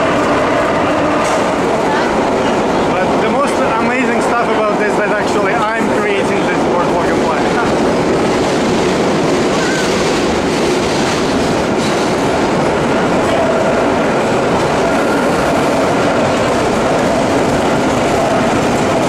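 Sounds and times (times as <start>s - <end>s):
subway car running on track: 0.0s - 19.0s.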